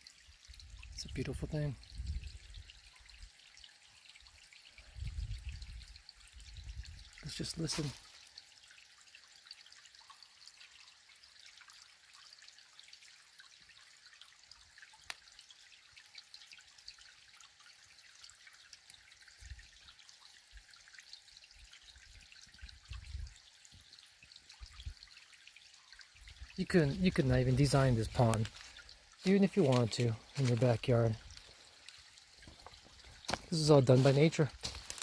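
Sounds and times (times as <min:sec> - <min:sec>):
water dripping into a pond: 0:00.0 - 0:35.0.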